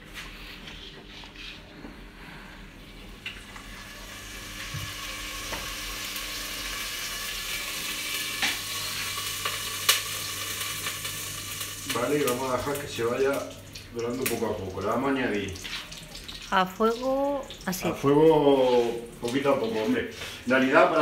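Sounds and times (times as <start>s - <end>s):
oil sizzling in a pot: 3.3s - 21.0s.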